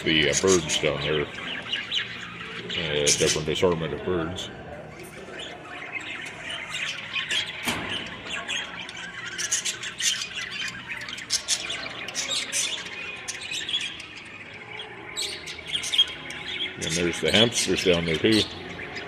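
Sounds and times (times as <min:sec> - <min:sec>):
caged birds chirping and squawking: 0:00.0 - 0:19.0.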